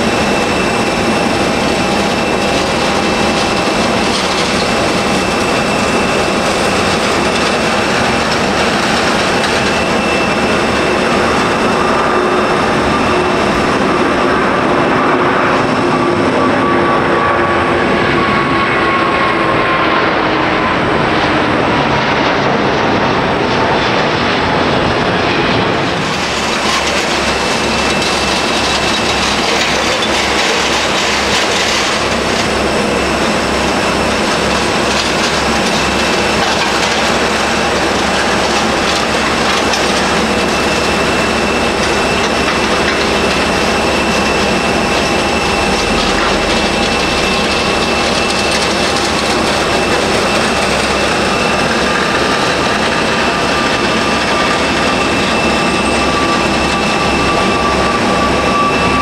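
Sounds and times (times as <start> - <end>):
faint jet whine: 0.0 - 59.0
jet engines rushing: 0.0 - 59.0.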